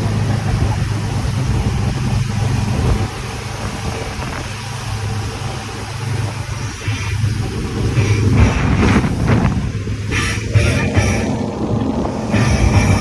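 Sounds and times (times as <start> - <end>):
motorboat engine running: 0.0 - 13.0
water rushing: 0.0 - 13.0.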